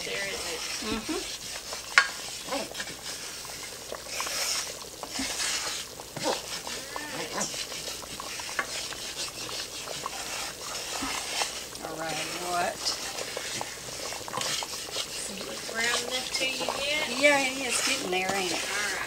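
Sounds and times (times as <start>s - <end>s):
roux sizzling: 0.0s - 19.0s
wooden spoon scraping a skillet: 0.0s - 19.0s.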